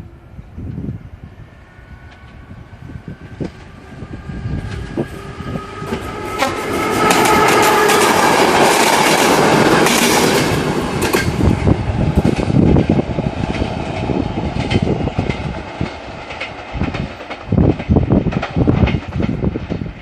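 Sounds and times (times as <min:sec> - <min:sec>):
passenger train passing: 0:00.0 - 0:20.0
train wheels clicking over rail joints: 0:03.2 - 0:20.0.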